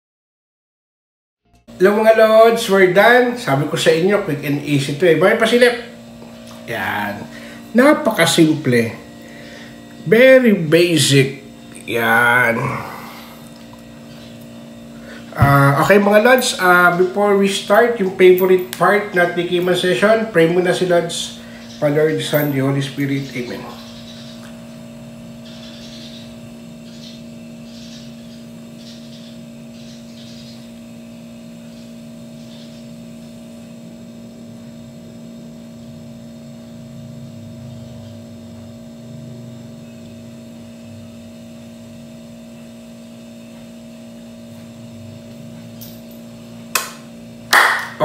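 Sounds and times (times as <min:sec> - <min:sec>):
steady low hum: 0:01.5 - 0:48.0.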